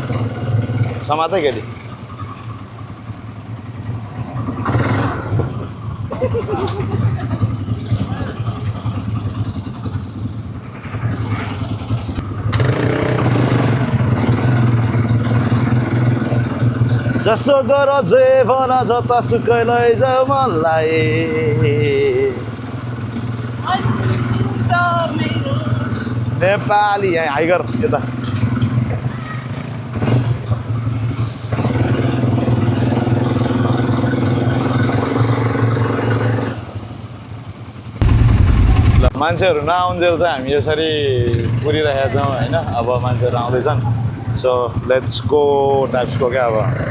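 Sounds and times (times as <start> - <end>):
quad bike engine accelerating: 0.0 - 39.2, 41.0 - 46.9.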